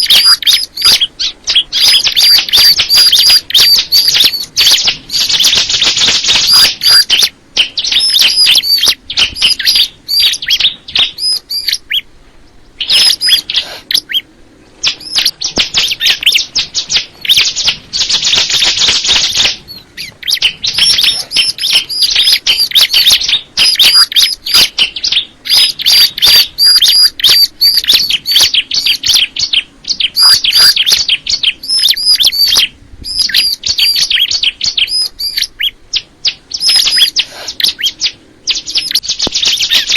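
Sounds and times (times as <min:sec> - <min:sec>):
buzzy bird trills: 0:00.0 - 0:39.9
small bird chirping: 0:00.0 - 0:39.9.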